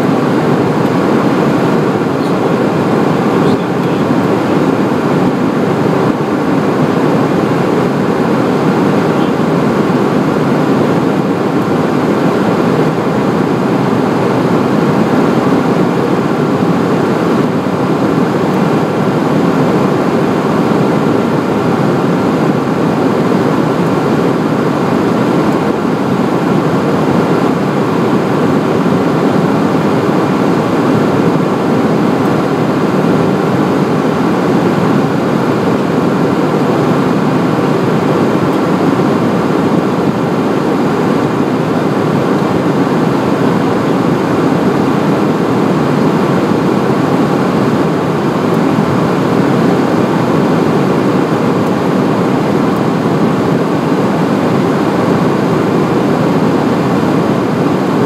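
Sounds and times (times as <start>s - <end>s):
faint steady whine: 0.0s - 58.0s
jet engines humming: 0.0s - 58.0s
rushing airflow: 0.0s - 58.0s.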